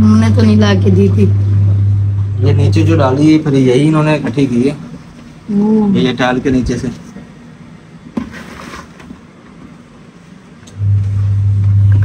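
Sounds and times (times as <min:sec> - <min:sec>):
loud steady low hum: 0:00.0 - 0:08.2, 0:09.2 - 0:12.0.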